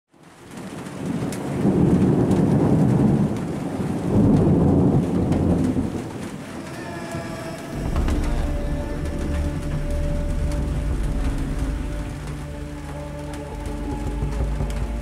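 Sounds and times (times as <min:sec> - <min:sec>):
rolling thunder: 0:00.6 - 0:15.0.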